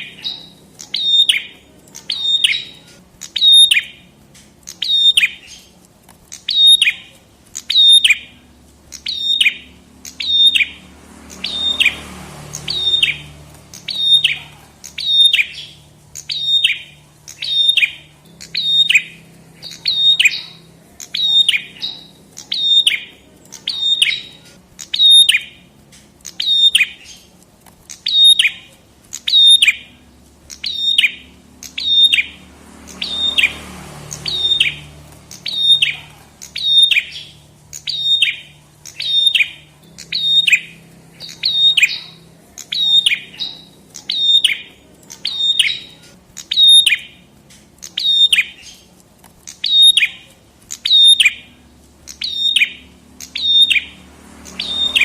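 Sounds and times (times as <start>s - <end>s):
bird singing high sharp call: 0.0s - 4.1s, 4.7s - 5.7s, 6.4s - 25.7s, 26.3s - 48.9s, 49.5s - 55.0s.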